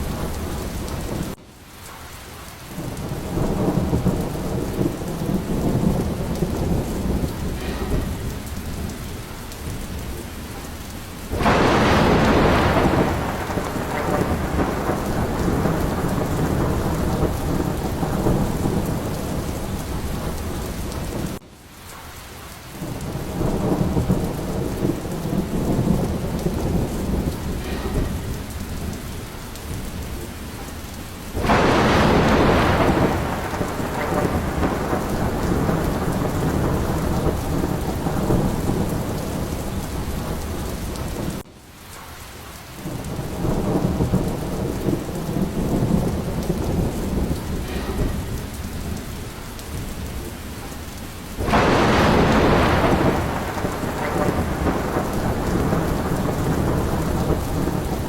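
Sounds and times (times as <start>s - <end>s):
heavy rain: 0.0s - 58.0s
rolling thunder rumbling: 0.0s - 58.0s
loud thunderclap: 2.8s - 21.4s, 22.8s - 41.5s, 42.8s - 58.0s.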